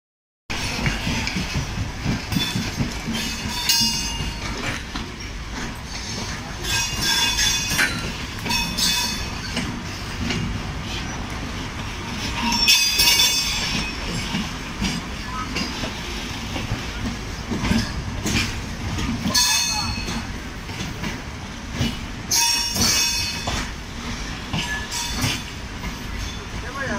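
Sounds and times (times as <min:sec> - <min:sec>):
train wheels rumbling on rails: 0:00.5 - 0:26.9
wheels clicking over rail joints: 0:00.5 - 0:26.9.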